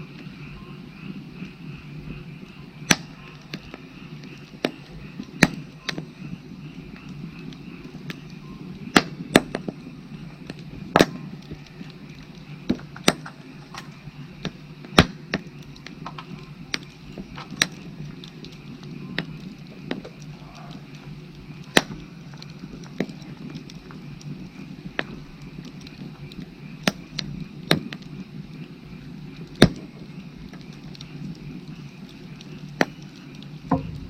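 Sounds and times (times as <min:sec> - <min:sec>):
frogs chorus: 0:00.0 - 0:34.0
open fire crackling and popping: 0:00.0 - 0:34.0.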